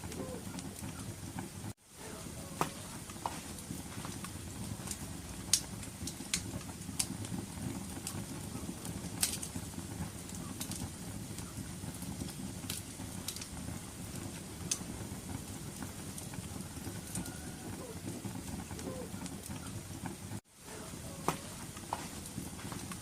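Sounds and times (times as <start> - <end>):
fire crackles and pops: 0.0 - 23.0
low rumble of flames: 0.0 - 23.0.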